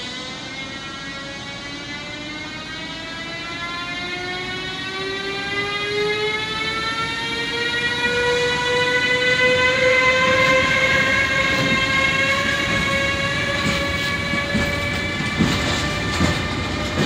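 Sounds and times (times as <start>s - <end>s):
electric locomotive whining: 0.0s - 17.0s.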